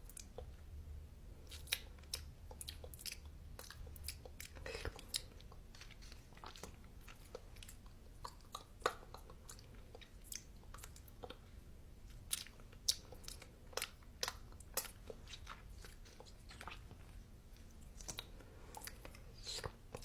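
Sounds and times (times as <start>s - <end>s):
person chewing crunchy food: 1.4s - 20.0s.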